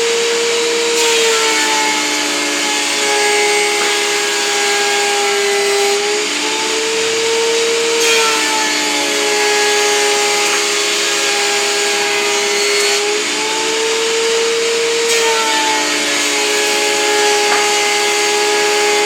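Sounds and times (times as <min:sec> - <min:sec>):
planer motor whine: 0:00.0 - 0:19.0
shop vacuum running: 0:00.0 - 0:19.0.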